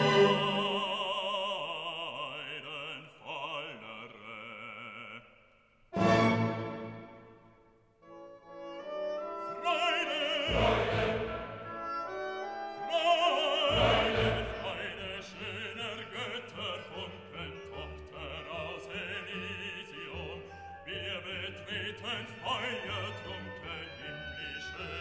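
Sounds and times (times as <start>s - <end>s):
classical music: 0.0s - 3.0s, 5.9s - 25.0s.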